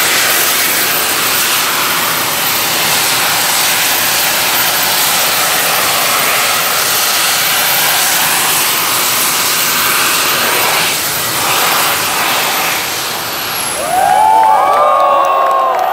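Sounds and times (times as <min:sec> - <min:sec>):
jet engines with high whine: 0:00.0 - 0:15.9.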